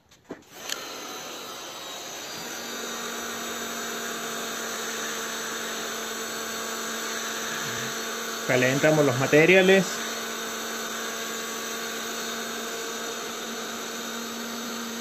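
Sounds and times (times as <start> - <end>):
heat gun fan blowing: 0.3 - 15.0.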